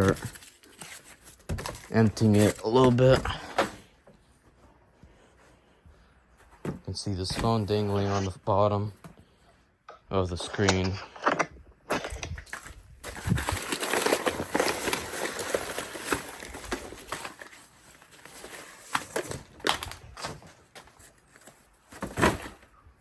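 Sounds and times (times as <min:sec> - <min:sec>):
cardboard and paper rustling: 0:00.0 - 0:09.4, 0:10.4 - 0:23.0.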